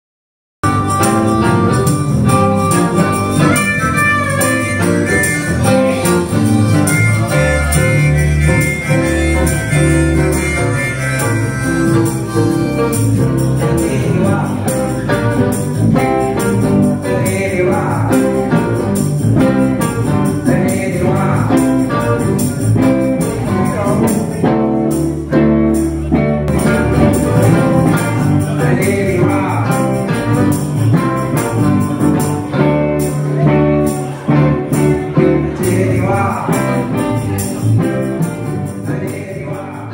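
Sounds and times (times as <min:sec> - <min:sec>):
guitars: 0:00.6 - 0:39.9
live blues band: 0:00.6 - 0:39.9
person singing: 0:00.6 - 0:39.9.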